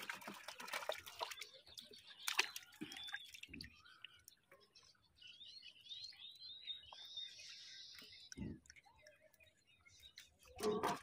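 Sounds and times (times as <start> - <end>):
water drips: 0.0 - 4.9, 6.3 - 11.0
bird chirping: 1.1 - 11.0.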